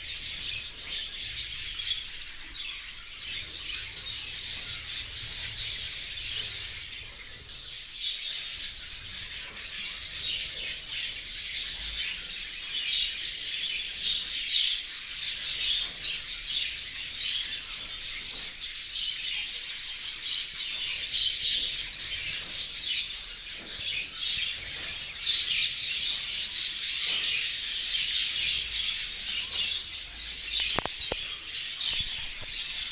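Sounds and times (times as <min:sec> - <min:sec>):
budgerigars chattering and chirping: 0:00.0 - 0:32.9.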